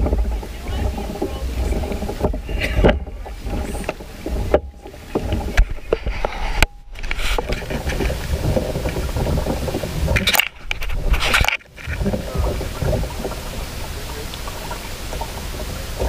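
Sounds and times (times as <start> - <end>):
water lapping and splashing: 0.0 - 16.0
wind rumble on microphone: 0.0 - 16.0.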